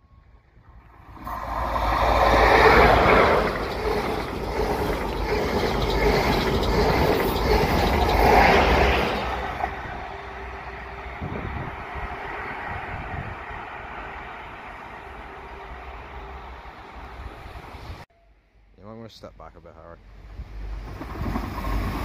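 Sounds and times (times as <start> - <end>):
diesel train passing at speed: 0.0 - 18.1, 19.4 - 22.0.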